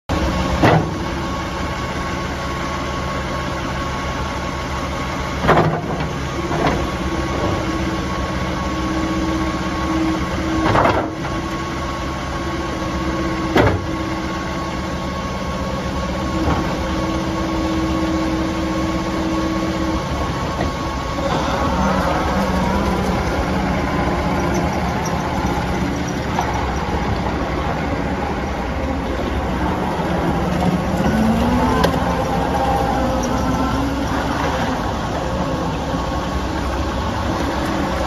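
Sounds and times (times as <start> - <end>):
diesel engine running: 0.1 - 38.0
hydraulic whine: 0.1 - 38.0.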